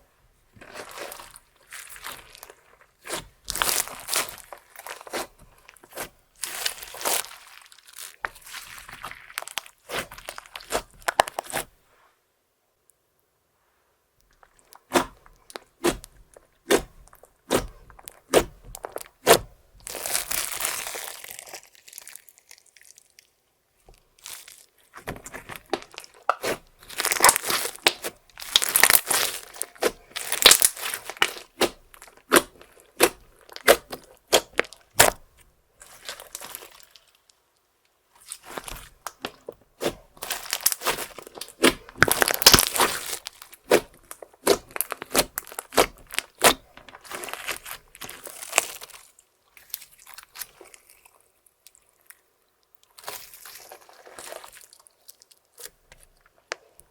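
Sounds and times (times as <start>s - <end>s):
wet crackling slime: 0.0s - 11.8s, 14.2s - 56.9s
slime squishing and popping: 0.6s - 11.7s, 14.3s - 23.3s, 23.9s - 37.2s, 38.2s - 51.8s, 52.9s - 56.9s.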